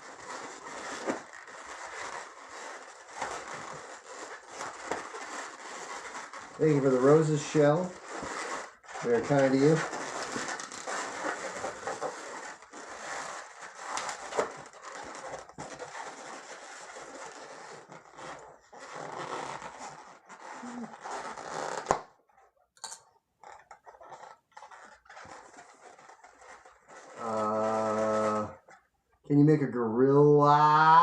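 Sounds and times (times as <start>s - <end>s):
balloons rubbing and squeaking: 0.0s - 31.0s.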